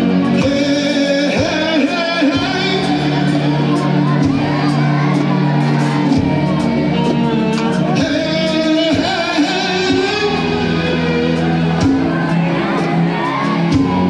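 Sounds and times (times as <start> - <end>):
band with keyboards violin and drums: 0.0 - 14.0
drum strikes: 0.0 - 14.0
man singing: 0.0 - 14.0.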